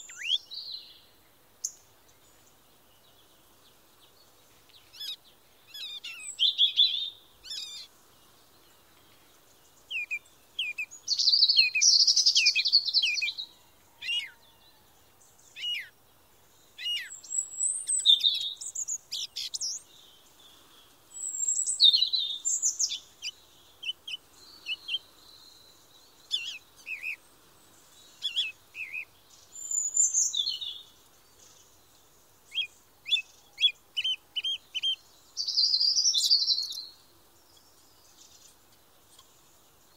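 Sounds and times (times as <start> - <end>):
small songbirds singing: 0.0 - 39.9.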